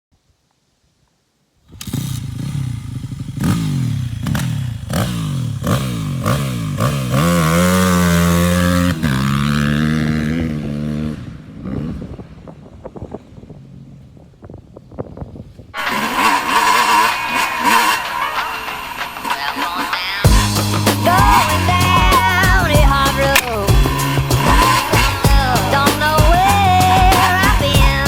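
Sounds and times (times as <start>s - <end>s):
engine crackles: 1.6s - 28.0s
dirt bike engine revving: 1.7s - 14.0s, 15.8s - 28.0s.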